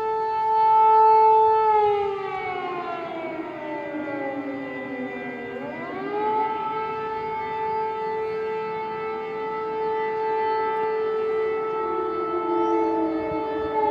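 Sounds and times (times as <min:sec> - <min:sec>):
air-raid siren wailing: 0:00.0 - 0:13.9.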